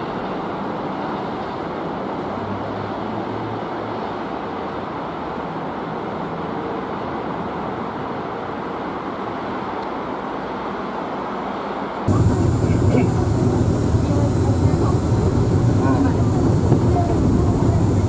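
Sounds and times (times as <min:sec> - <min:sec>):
suspended railway car running: 0:00.0 - 0:18.0.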